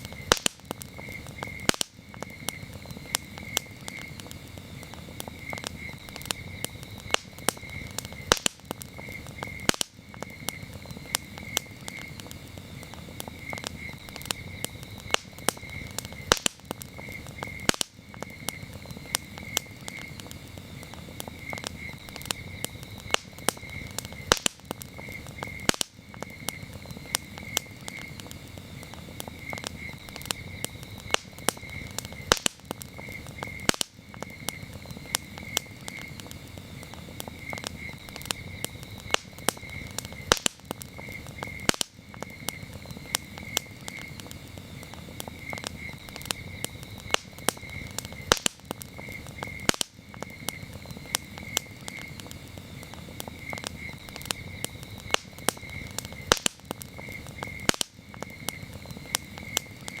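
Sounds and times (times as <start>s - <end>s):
campfire crackling and popping: 0.0s - 60.0s
crickets chirping: 0.0s - 60.0s.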